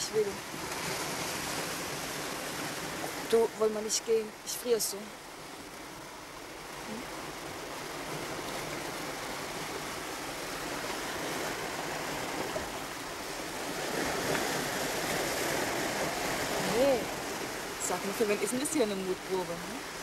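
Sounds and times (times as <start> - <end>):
waves breaking: 0.0 - 20.0.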